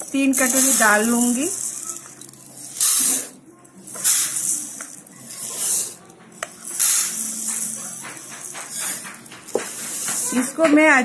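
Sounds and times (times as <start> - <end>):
dry lentils pouring into a bowl: 0.0 - 6.0, 6.6 - 10.3.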